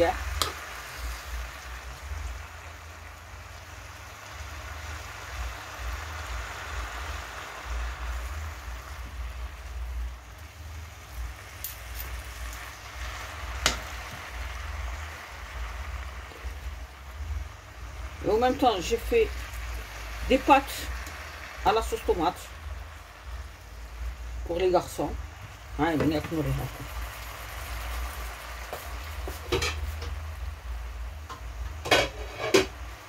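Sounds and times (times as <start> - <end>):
spinach sizzling in oil: 0.0 - 33.0.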